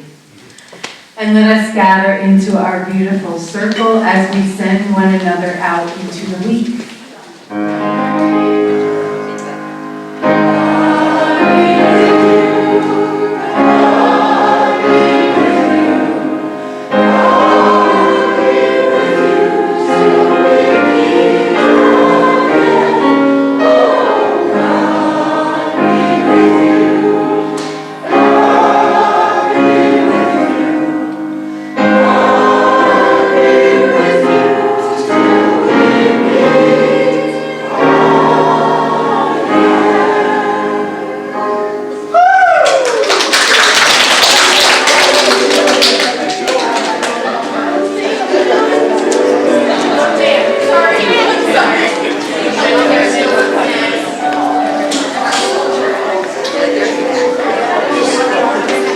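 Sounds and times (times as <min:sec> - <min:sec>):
congregation and choir singing hymn: 0:00.0 - 0:58.9
instrumental accompaniment: 0:03.2 - 0:42.2, 0:44.6 - 0:58.9.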